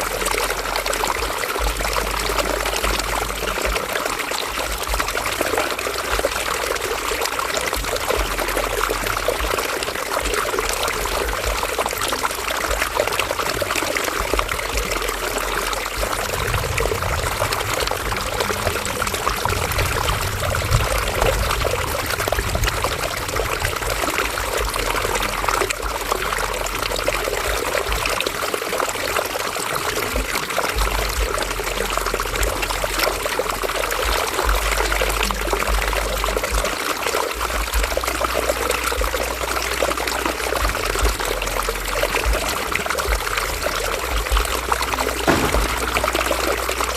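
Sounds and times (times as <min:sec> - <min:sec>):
river water flowing over rocks: 0:00.0 - 0:46.9.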